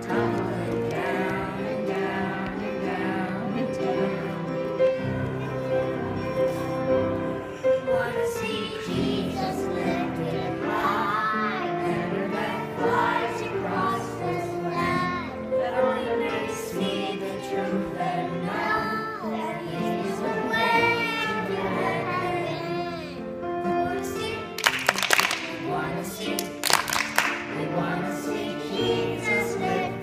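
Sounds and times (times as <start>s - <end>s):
children singing in unison: 0.0s - 30.0s.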